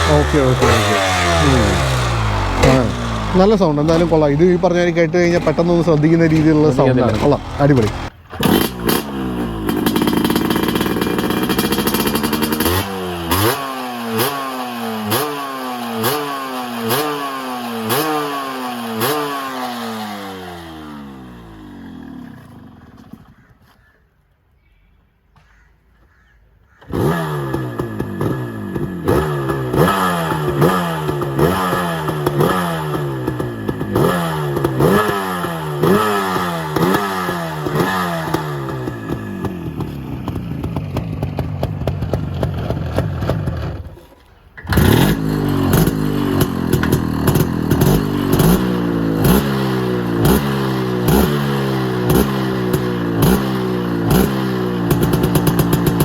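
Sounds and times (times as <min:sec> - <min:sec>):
motorcycle engine revving: 0:00.0 - 0:23.4, 0:26.8 - 0:56.0.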